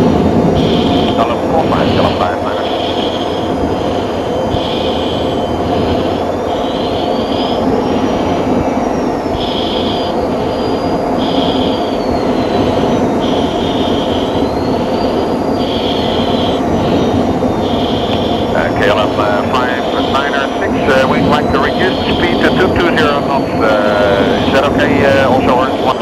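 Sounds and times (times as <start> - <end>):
jet engine and rushing air: 0.0 - 26.0
pulsing high tone: 0.0 - 26.0.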